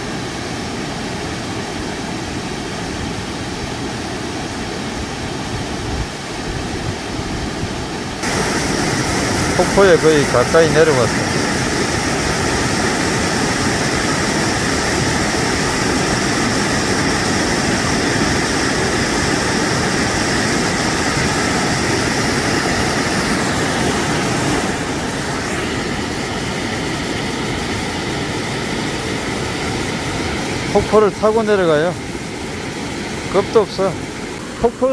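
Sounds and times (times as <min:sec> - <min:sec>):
waterfall rushing over rocks: 0:00.0 - 0:34.9.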